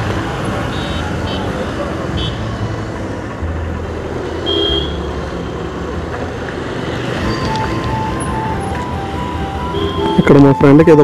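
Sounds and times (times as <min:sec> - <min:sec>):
road and traffic noise: 0:00.0 - 0:11.0.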